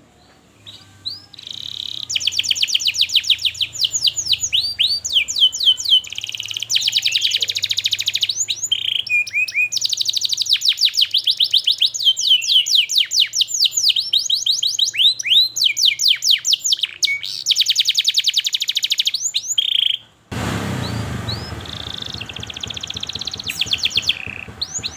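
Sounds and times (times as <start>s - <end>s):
canary singing trills and whistles: 0.6s - 20.1s, 20.8s - 24.9s.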